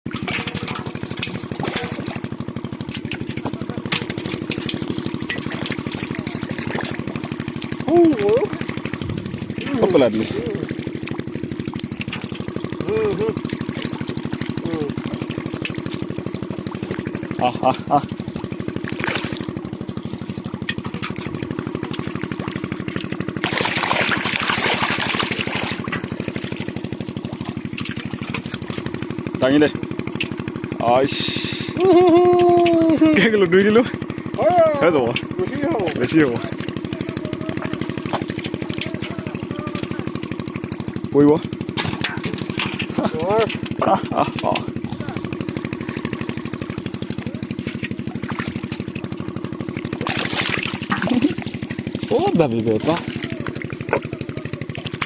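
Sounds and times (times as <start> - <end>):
small engine chugging: 0.1 - 55.0.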